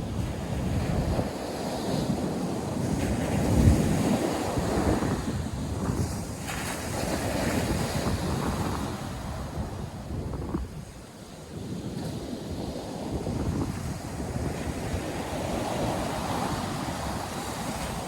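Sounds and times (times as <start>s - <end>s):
ocean surf breaking on beach: 0.0s - 18.0s
wind buffeting microphone: 0.0s - 18.0s.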